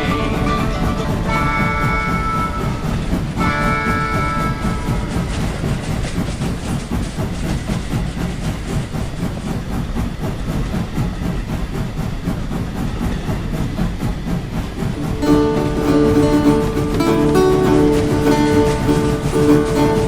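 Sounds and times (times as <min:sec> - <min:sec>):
train running on track: 0:00.0 - 0:20.0.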